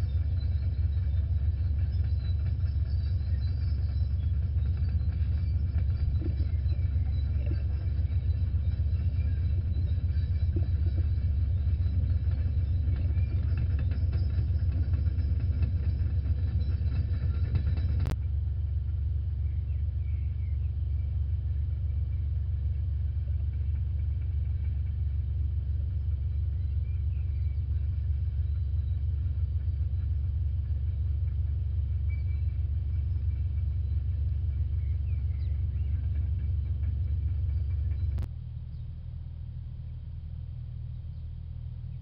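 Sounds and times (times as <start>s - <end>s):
low rumble: 0.0s - 42.0s.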